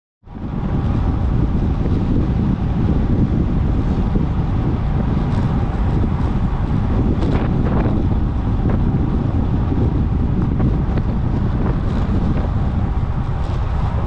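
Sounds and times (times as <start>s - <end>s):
wind buffeting microphone: 0.2s - 14.0s.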